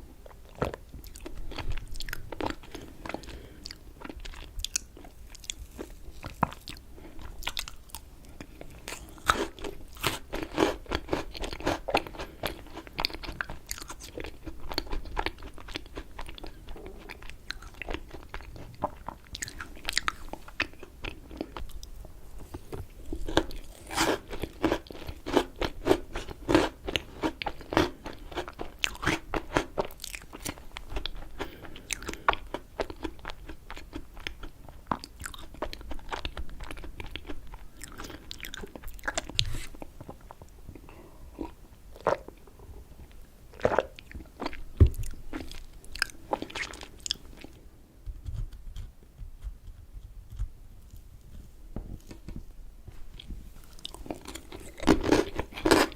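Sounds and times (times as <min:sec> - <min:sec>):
close chewing and mouth clicks: 0:00.2 - 0:55.9.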